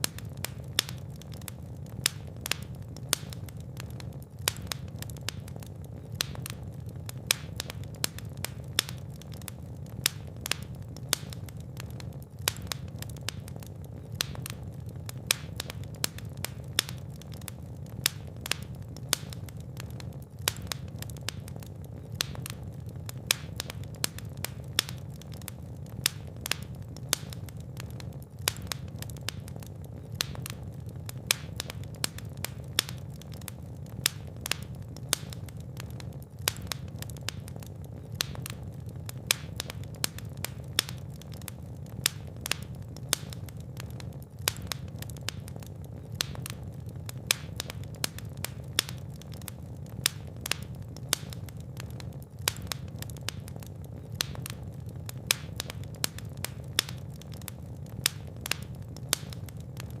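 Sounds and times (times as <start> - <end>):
fireplace fire crackling: 0.0 - 60.0.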